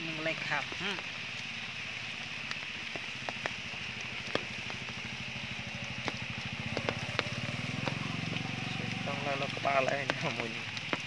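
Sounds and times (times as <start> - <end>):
rain pattering: 0.0 - 11.0.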